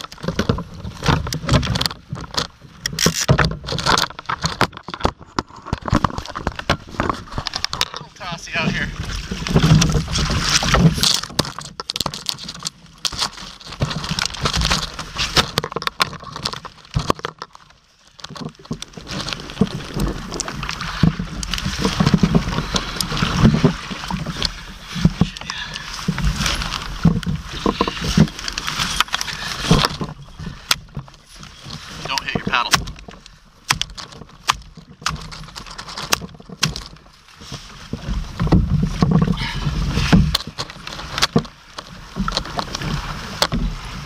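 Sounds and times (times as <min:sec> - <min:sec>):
landing net and gear rattling: 0:00.0 - 0:44.0
water splashing against kayak: 0:00.0 - 0:44.0.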